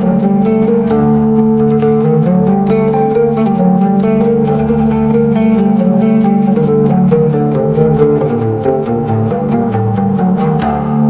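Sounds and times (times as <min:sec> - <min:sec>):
low held notes: 0:00.0 - 0:11.0
oud plucking melody: 0:00.0 - 0:11.0.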